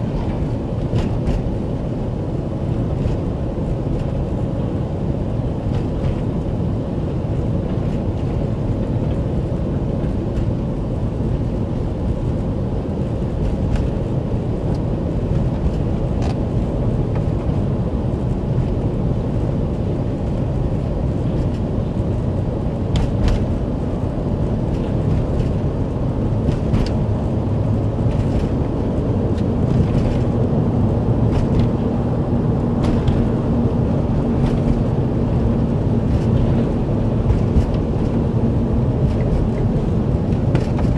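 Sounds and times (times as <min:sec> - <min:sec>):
car driving on snowy road: 0:00.0 - 0:40.9.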